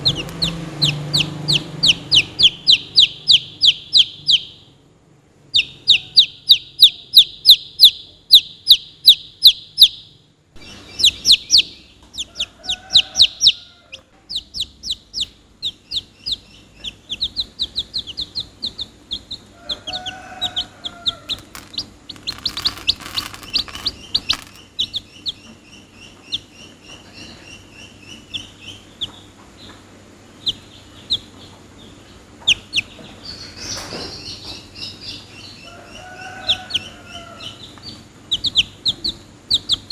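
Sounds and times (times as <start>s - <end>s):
chicks peeping: 0.0s - 4.8s, 5.5s - 39.9s.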